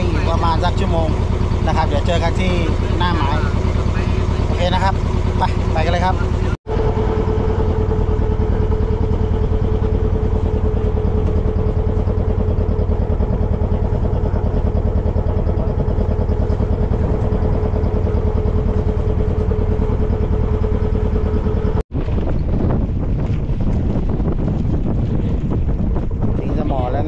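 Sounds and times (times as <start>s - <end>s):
boat diesel engine running: 0.0s - 27.0s
engine whine: 0.0s - 27.0s.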